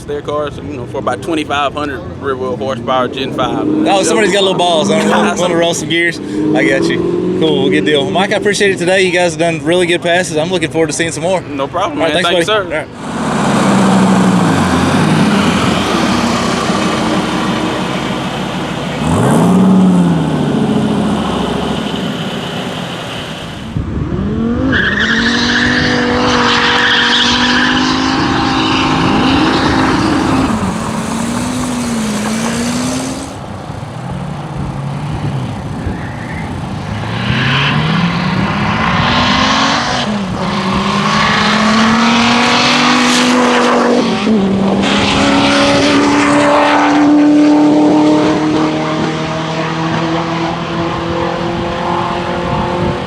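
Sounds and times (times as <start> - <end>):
car engine at full throttle: 0.0 - 10.2, 12.0 - 53.0.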